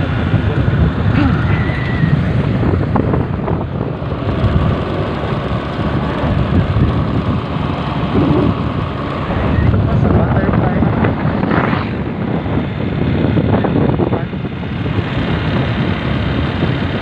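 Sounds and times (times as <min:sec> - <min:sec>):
motor scooter running: 0:00.0 - 0:17.0
wind buffeting microphone: 0:00.0 - 0:17.0.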